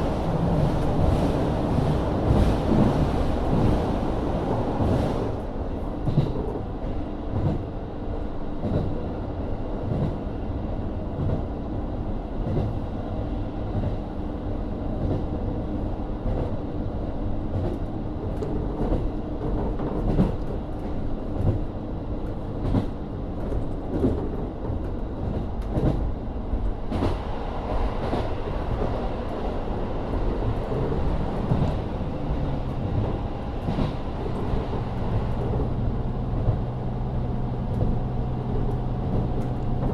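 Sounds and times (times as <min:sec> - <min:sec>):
diesel railcar engine drone: 0:00.0 - 0:39.9.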